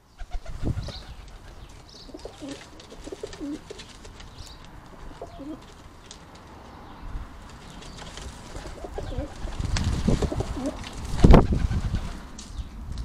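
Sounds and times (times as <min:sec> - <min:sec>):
pigeons cooing: 0:00.2 - 0:06.0, 0:07.6 - 0:12.2
pigeons scuffling: 0:00.9 - 0:12.6.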